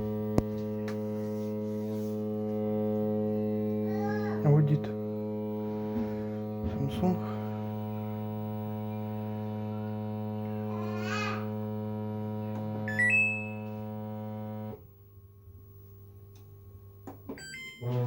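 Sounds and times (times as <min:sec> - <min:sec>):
washing machine deep hum: 0:00.0 - 0:14.8.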